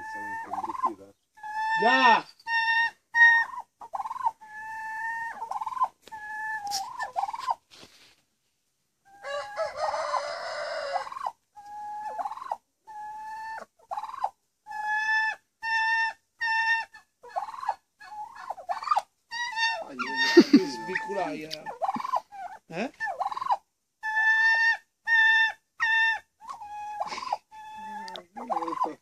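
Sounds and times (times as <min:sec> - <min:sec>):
harsh turkey call: 0:00.0 - 0:07.6, 0:09.1 - 0:29.0
turkey calls: 0:00.0 - 0:07.7, 0:09.0 - 0:29.0.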